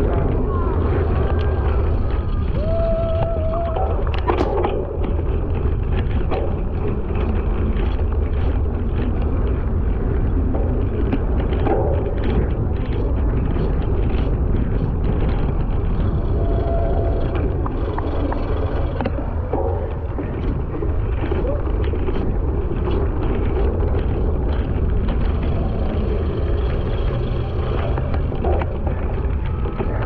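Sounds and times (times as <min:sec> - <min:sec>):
bike rattling over bumps: 0:00.0 - 0:30.0
bike tyres rumbling on grass: 0:00.0 - 0:30.0
wind buffeting microphone: 0:00.0 - 0:30.0.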